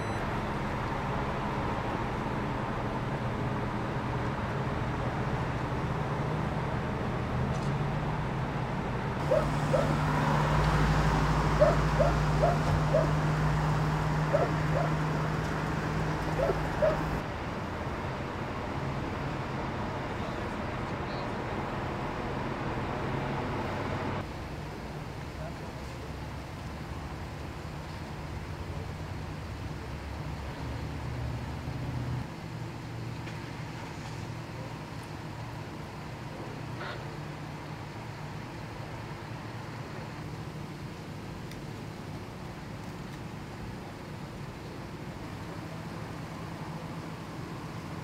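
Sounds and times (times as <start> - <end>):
vehicle engines idling: 0.0 - 48.0.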